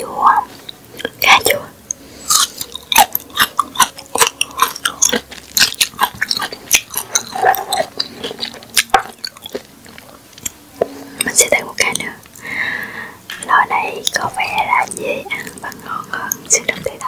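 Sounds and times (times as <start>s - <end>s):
crunchy chewing: 0.4s - 12.5s, 13.3s - 16.9s.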